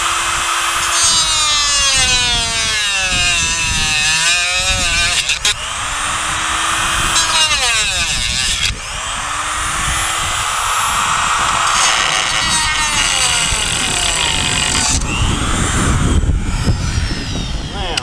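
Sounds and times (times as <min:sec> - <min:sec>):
electric drill motor whine: 0:00.0 - 0:18.0
rough grinding noise: 0:00.0 - 0:18.0.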